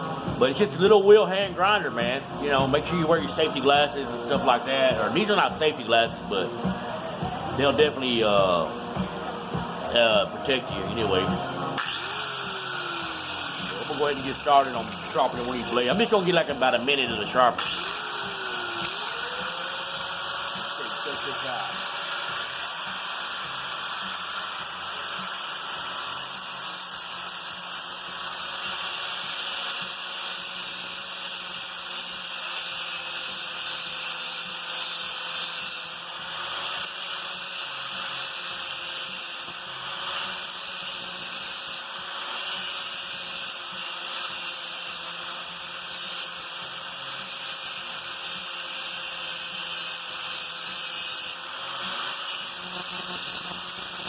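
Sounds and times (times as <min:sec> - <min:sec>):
angle grinder grinding metal: 0:00.0 - 0:54.0.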